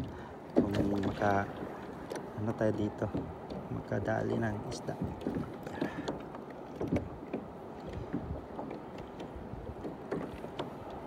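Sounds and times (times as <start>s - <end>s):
waves lapping against kayak hull: 0.0s - 11.0s.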